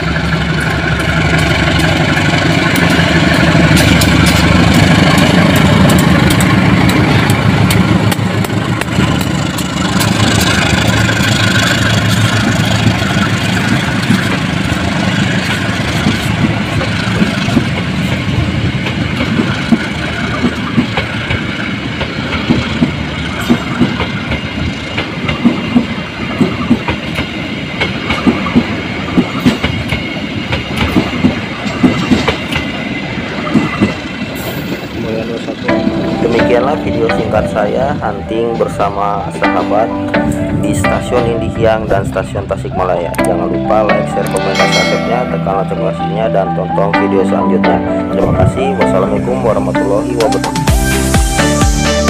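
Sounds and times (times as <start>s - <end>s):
wheels clacking over rail joints: 0.0s - 42.4s
diesel locomotive engine running: 0.0s - 46.8s
passenger coaches rumbling past: 0.0s - 52.0s.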